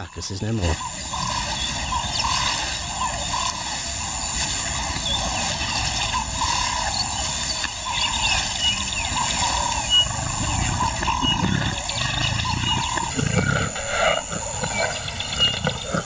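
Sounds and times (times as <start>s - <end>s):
paws scraping dry earth: 0.6s - 16.0s.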